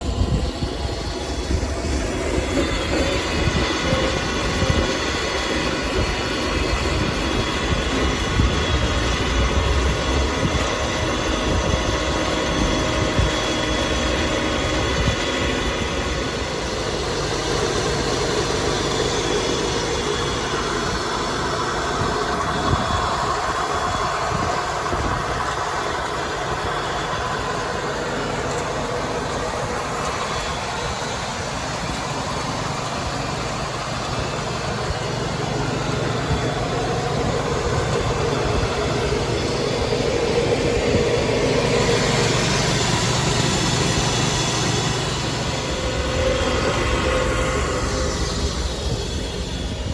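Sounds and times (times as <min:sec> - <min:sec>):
mower engine rumble with whine: 0:00.0 - 0:49.9.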